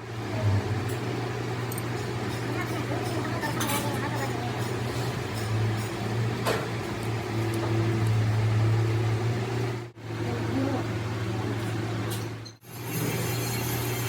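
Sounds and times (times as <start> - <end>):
machine humming: 0.0 - 11.5.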